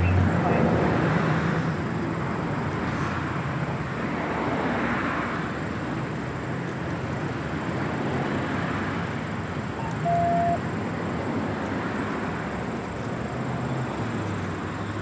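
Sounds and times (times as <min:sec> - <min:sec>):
motor vehicle noise: 0:00.0 - 0:15.0.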